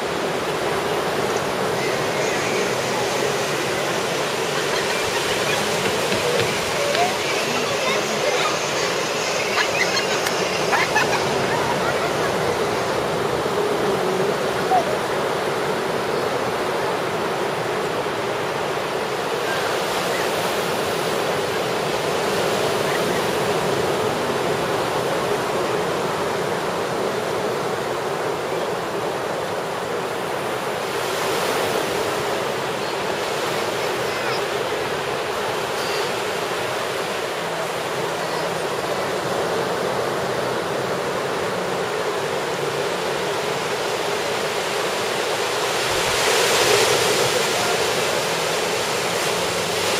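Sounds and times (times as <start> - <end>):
ocean surf on rocky shore: 0.0 - 49.9.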